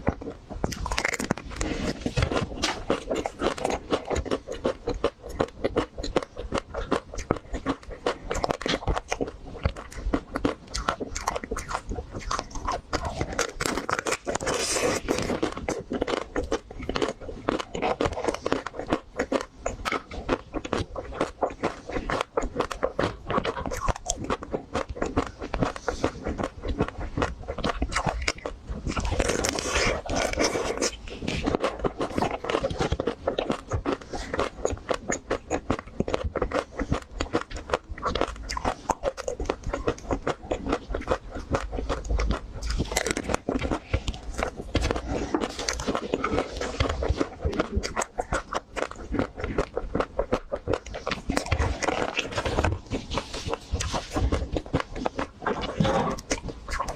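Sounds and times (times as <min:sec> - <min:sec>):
crunchy chewing of ice cream bar: 0:00.0 - 0:56.9.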